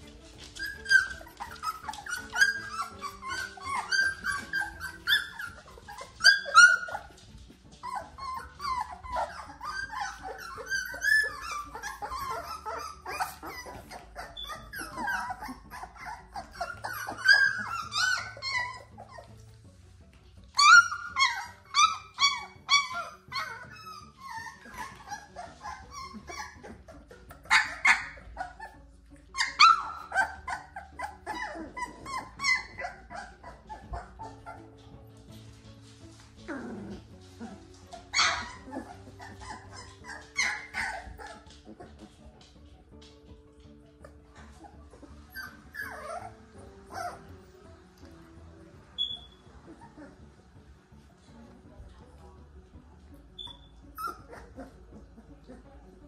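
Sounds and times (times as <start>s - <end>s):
puppies whining and yipping: 0.0s - 19.6s, 20.4s - 48.2s, 48.9s - 50.6s, 53.2s - 56.0s
puppy yelp: 0.3s - 19.4s, 20.5s - 35.0s, 36.4s - 43.1s, 44.0s - 47.4s, 49.0s - 50.2s, 53.4s - 55.6s.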